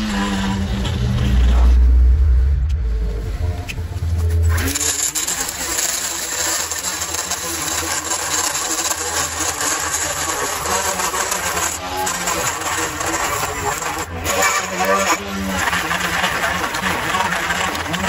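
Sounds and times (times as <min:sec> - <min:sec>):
string trimmer cutting grass: 0:00.0 - 0:01.9, 0:04.1 - 0:18.0.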